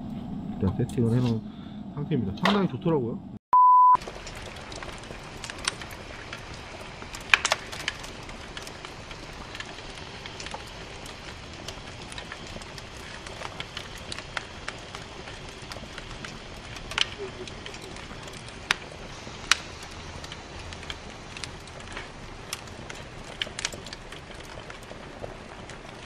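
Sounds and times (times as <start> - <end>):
wood fire crackling: 4.0 - 26.0.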